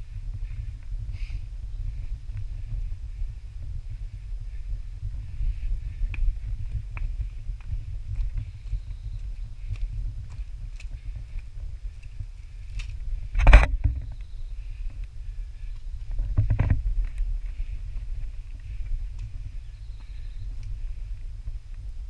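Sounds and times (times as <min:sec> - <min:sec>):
wind and handling rumble: 0:00.0 - 0:22.0
footsteps on dirt and rock: 0:01.9 - 0:21.8.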